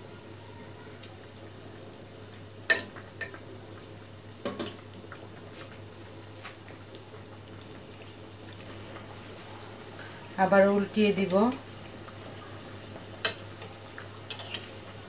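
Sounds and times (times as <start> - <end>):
dough sizzling in hot oil: 0.0 - 15.0.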